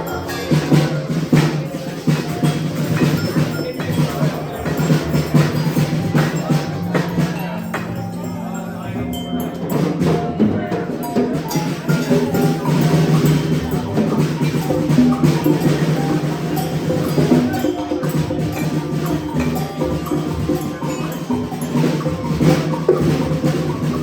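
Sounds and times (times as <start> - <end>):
ringing bell-like tones: 0.0 - 24.0.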